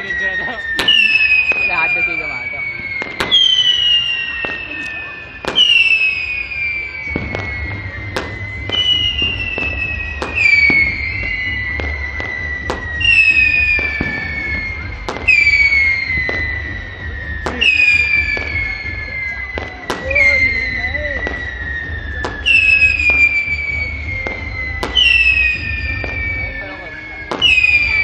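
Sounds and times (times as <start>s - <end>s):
firecrackers cracking: 0.0s - 28.0s
whistling fireworks: 0.0s - 28.0s.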